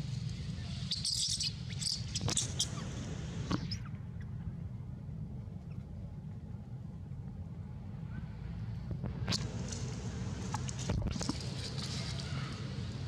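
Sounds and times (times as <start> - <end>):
steady low rumble: 1.6 - 13.0.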